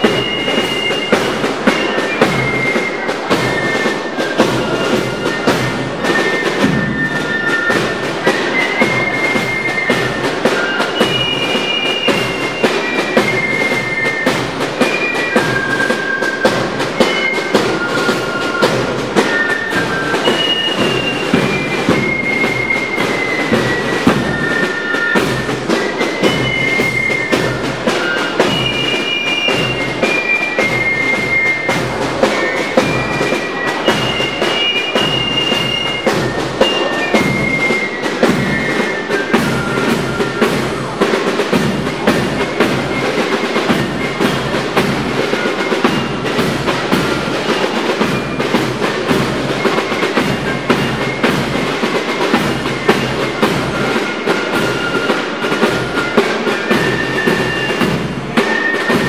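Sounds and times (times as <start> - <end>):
fife melody: 0.0 - 59.0
rhythmic marching drums: 0.0 - 59.0.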